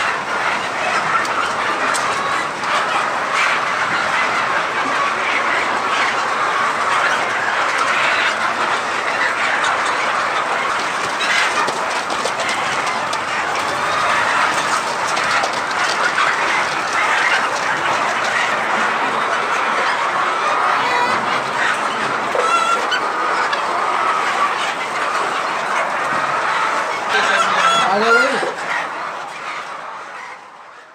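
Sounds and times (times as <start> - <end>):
hens clucking and cackling: 0.0 - 30.9.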